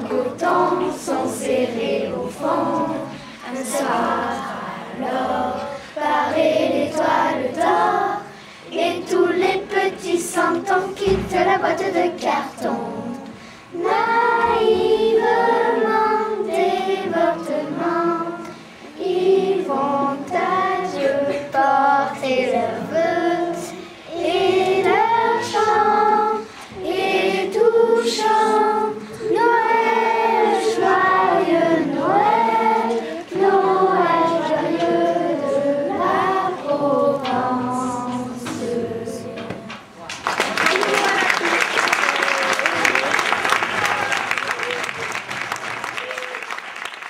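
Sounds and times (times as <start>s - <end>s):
children's choir singing: 0.0s - 44.7s.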